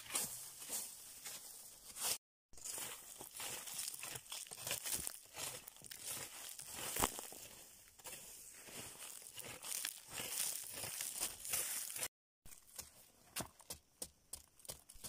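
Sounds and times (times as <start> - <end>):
dry leaves crunching underfoot: 0.0 - 13.0.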